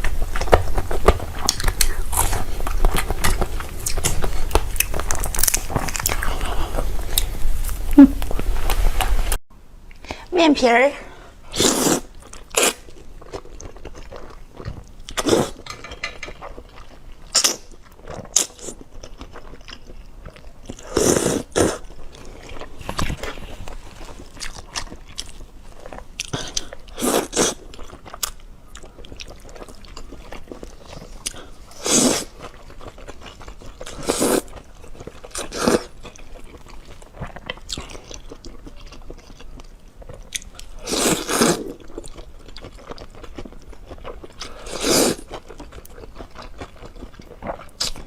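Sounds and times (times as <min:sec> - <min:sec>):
person chewing: 0:00.0 - 0:09.1, 0:11.5 - 0:48.0.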